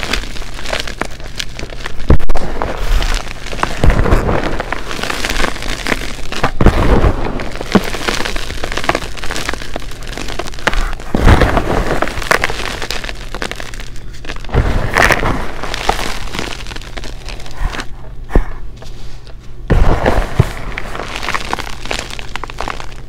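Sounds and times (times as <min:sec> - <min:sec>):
chalk crunching: 0:00.0 - 0:23.0.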